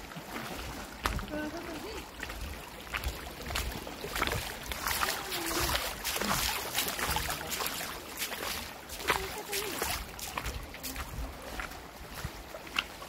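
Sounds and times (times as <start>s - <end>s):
stream splashing over rocks: 0.0s - 13.0s.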